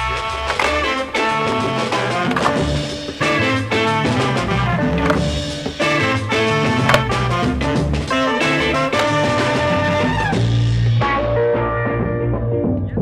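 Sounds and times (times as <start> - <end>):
background music with drums: 0.0 - 12.8.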